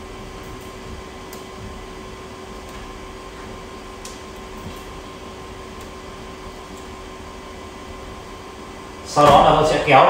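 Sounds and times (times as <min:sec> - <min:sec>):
background hum with tone: 0:00.0 - 0:10.0.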